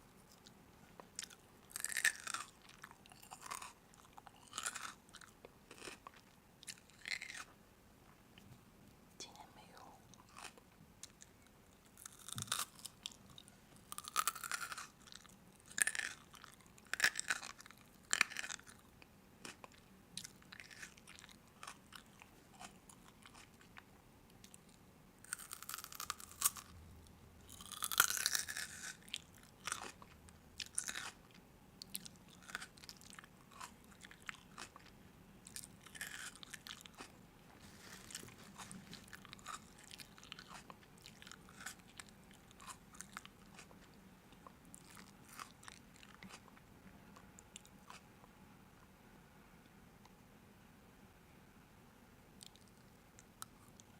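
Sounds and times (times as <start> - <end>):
crunchy food being chewed: 0.1 - 7.6, 9.3 - 48.3, 52.4 - 53.9.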